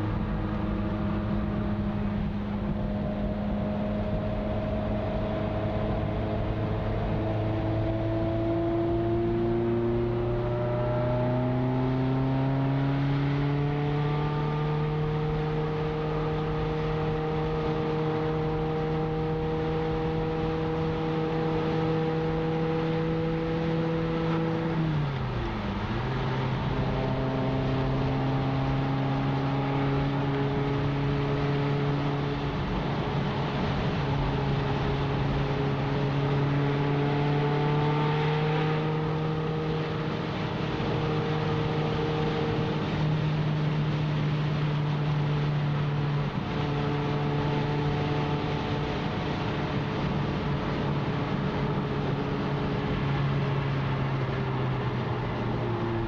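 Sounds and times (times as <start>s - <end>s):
car engine cruising: 0.0s - 56.0s
road and tyre noise: 0.0s - 56.0s.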